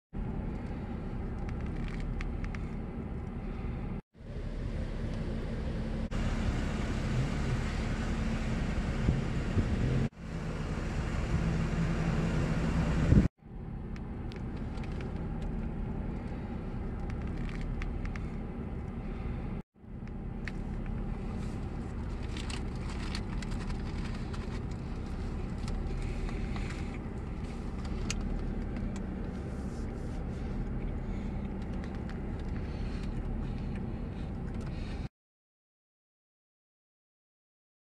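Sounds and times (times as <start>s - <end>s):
road traffic rumble: 0.2s - 35.1s.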